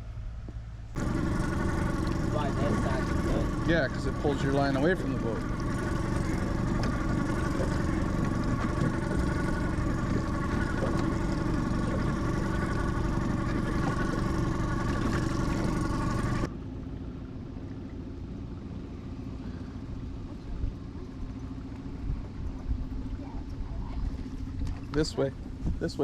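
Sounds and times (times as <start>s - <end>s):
outboard motor running: 0.0s - 26.0s.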